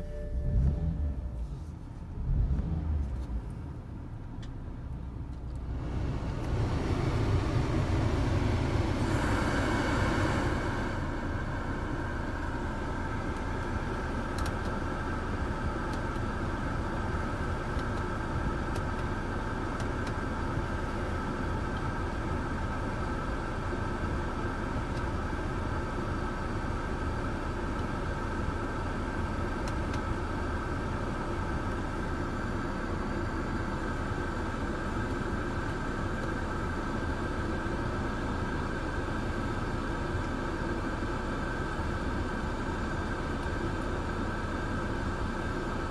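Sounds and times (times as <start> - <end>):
car engine running inside cabin: 0.0 - 45.9.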